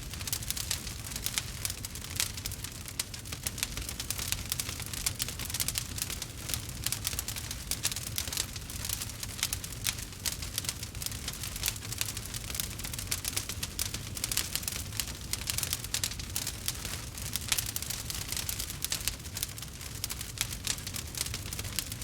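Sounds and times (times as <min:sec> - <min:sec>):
campfire crackling and popping: 0:00.0 - 0:22.0
low rumble of flame: 0:00.0 - 0:22.0.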